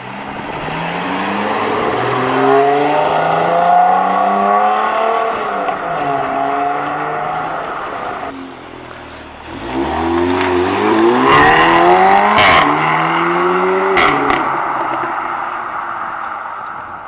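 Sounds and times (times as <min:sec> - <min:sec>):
car engine revving: 0:00.1 - 0:08.4, 0:09.4 - 0:17.0.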